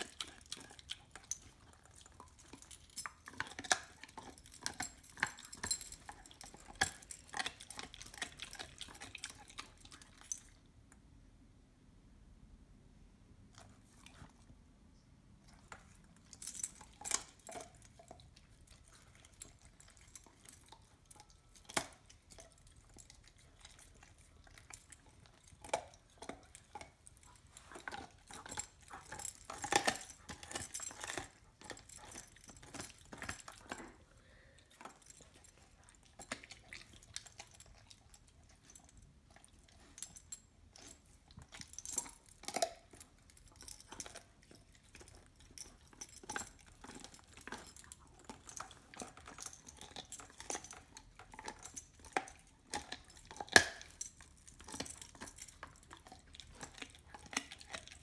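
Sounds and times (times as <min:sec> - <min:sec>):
dog gnawing a bone: 0:00.0 - 0:10.6, 0:15.5 - 0:58.0.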